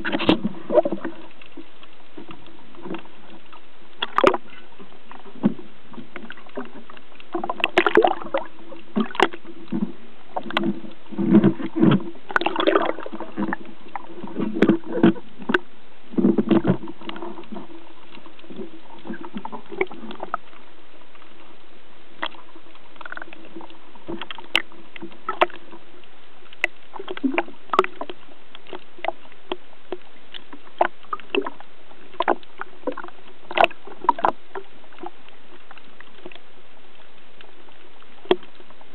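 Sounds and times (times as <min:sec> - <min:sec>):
muffled underwater clicks and knocks: 0:00.0 - 0:38.9.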